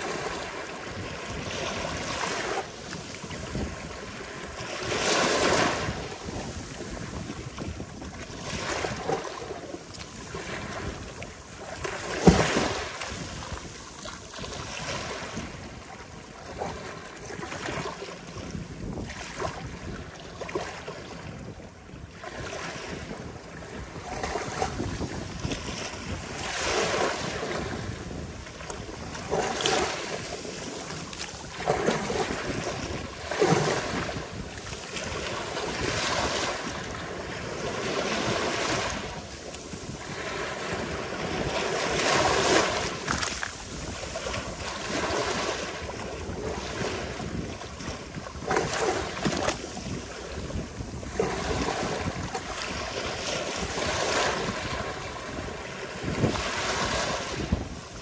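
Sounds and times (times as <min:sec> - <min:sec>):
ocean waves breaking on a beach: 0:00.0 - 0:58.0.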